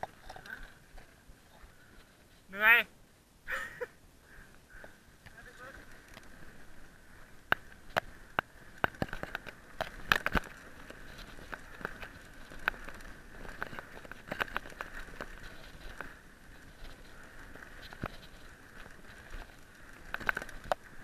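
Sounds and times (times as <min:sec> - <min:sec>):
mountain bike rattling over dirt: 0:00.0 - 0:02.8, 0:04.7 - 0:21.0.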